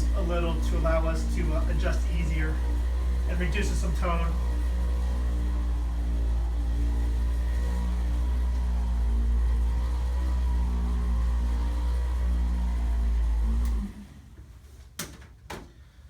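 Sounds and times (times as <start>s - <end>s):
electric massager motor hum: 0.0s - 14.3s.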